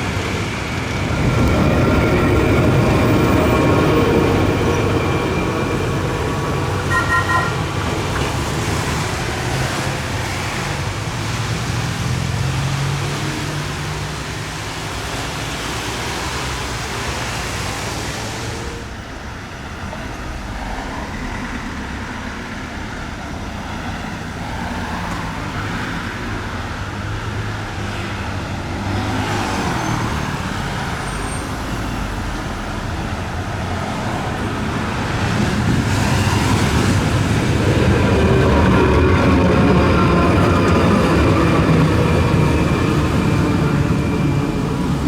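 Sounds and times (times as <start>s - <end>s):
road vehicles passing: 0.0s - 45.0s.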